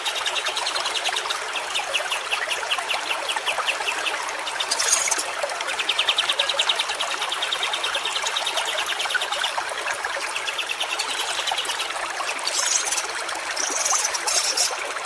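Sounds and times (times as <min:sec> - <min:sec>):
stream rushing and trickling: 0:00.0 - 0:15.0.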